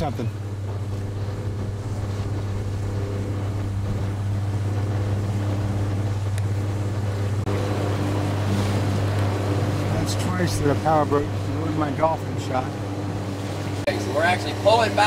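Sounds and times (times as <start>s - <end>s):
powerboat engine running: 0.0s - 15.0s
water noise: 0.0s - 15.0s
wind: 0.0s - 15.0s.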